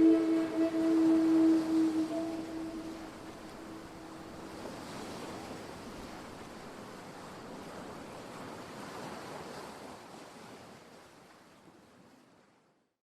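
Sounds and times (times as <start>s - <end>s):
sea waves washing ashore: 0.0s - 12.2s
wind: 0.0s - 13.0s.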